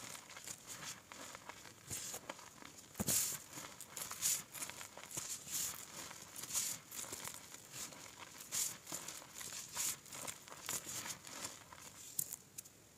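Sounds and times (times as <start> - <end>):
hands crushing chalk powder: 0.0 - 12.4.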